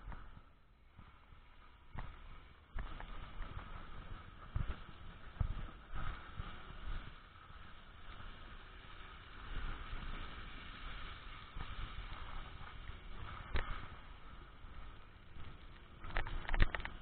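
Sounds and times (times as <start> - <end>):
vehicle driving on snowy road: 0.0 - 17.0.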